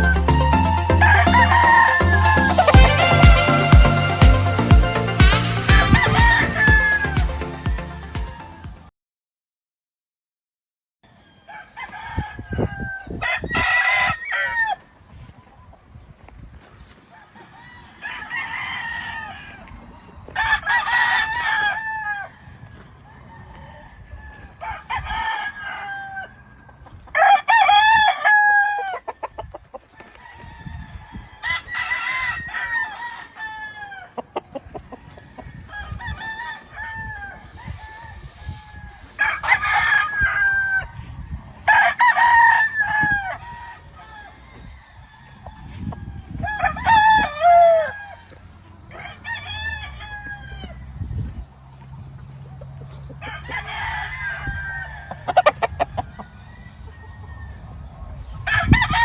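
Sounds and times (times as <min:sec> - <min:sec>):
roosters crowing: 0:00.0 - 0:08.9, 0:11.0 - 0:15.5, 0:16.2 - 0:59.0.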